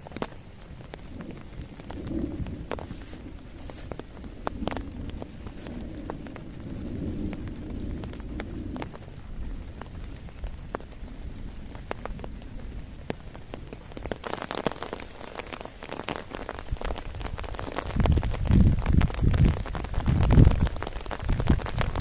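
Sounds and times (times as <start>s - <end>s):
heavy rain falling: 0.0s - 22.0s
raindrops tapping close by: 0.0s - 22.0s.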